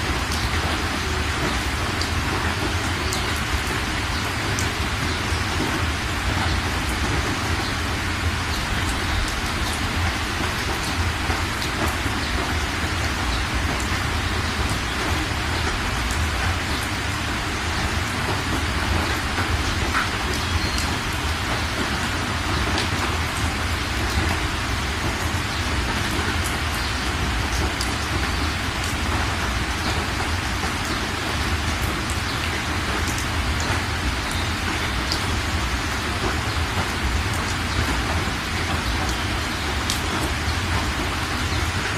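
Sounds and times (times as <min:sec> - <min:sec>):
heavy rain hiss: 0:00.0 - 0:41.9.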